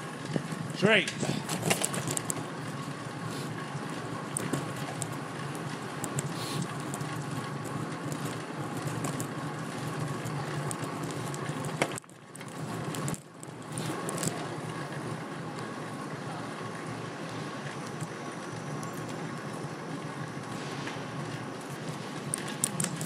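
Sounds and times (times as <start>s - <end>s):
bicycle rolling on street: 0.0s - 23.0s.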